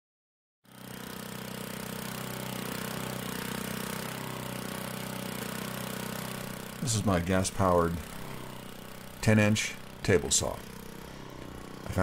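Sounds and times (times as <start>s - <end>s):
small gas engine running: 0.7s - 12.0s.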